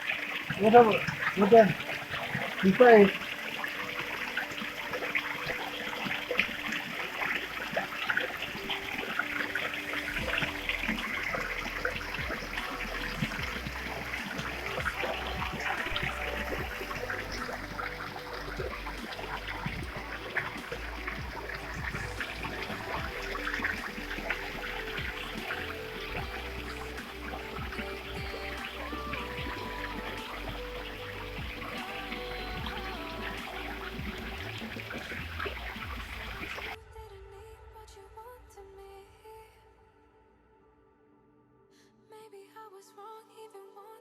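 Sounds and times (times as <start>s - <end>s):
waterfall splashing over rocks: 0.0s - 36.8s.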